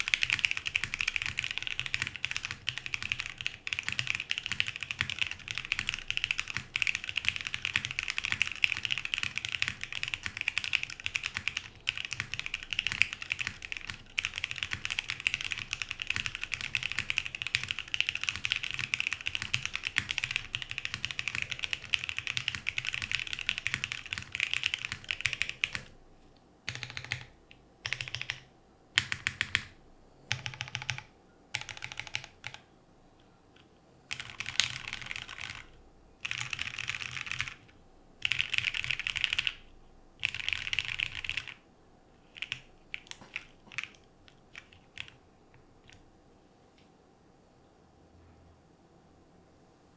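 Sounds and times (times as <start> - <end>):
mechanical keyboard typing: 0.0 - 26.0, 26.7 - 32.6, 33.6 - 39.6, 40.2 - 41.6, 42.3 - 46.0.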